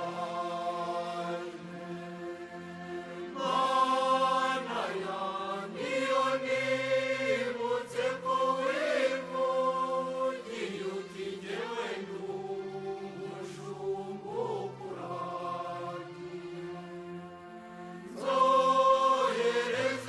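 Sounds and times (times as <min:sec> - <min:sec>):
choir-like chanting voices: 0:00.0 - 0:20.0.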